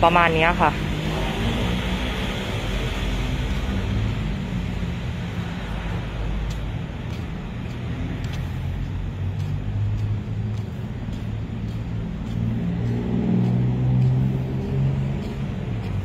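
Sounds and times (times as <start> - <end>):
city road traffic rumble: 0.0 - 16.0.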